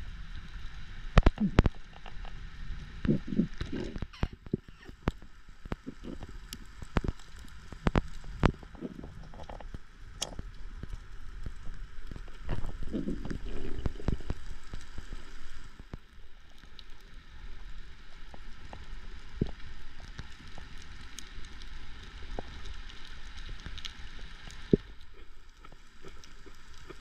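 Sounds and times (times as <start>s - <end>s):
muffled underwater hiss: 0.0s - 27.0s
sharp clicks and crackles: 0.3s - 27.0s.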